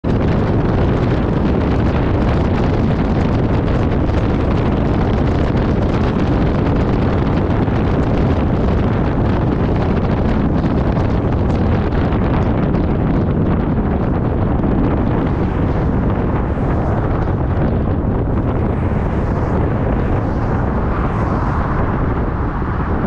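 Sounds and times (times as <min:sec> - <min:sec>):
vehicle and road noise: 0:00.0 - 0:23.0
wind buffeting microphone: 0:00.0 - 0:23.0.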